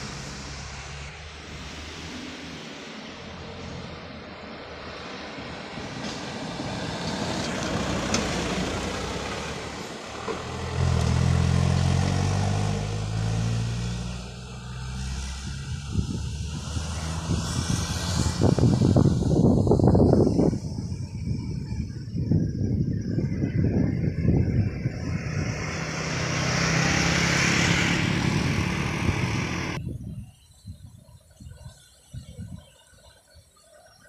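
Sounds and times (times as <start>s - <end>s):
diesel engine drone: 0.0s - 29.8s
traffic noise: 0.0s - 30.2s.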